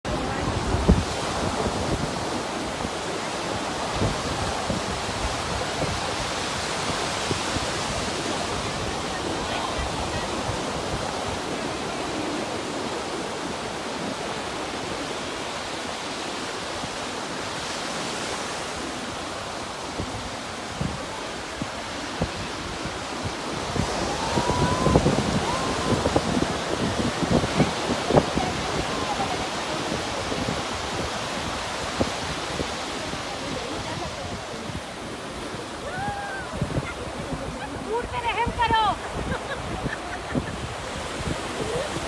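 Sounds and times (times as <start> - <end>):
wind on microphone: 0.0 - 42.0
waves washing: 0.1 - 42.0.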